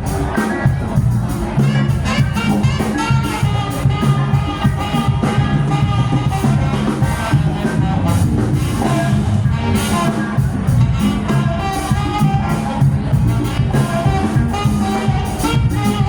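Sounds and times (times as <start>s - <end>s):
bass line: 0.0s - 16.0s
live band music: 0.0s - 16.0s.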